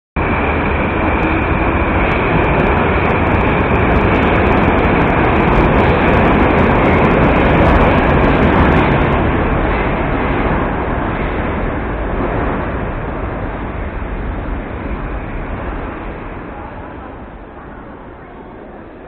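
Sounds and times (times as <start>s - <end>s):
metro train rumble: 0.2s - 19.0s
rushing noise: 0.2s - 19.0s.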